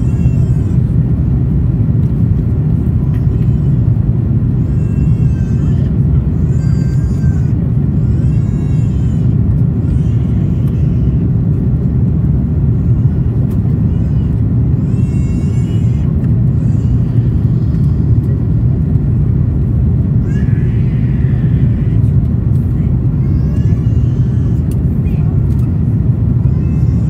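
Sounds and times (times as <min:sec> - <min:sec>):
airplane cabin drone: 0:00.0 - 0:27.0.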